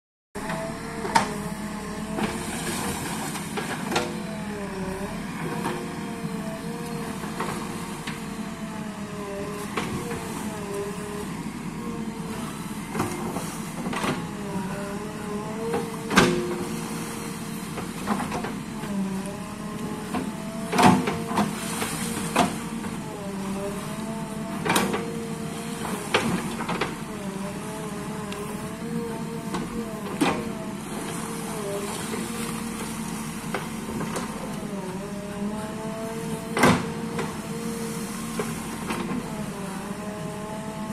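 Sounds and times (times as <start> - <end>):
diesel engine running: 0.4 - 40.9.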